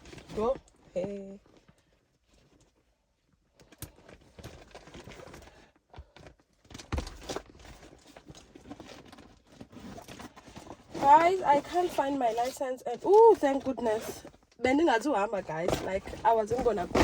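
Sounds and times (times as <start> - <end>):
person rummaging and handling things: 0.0 - 17.0.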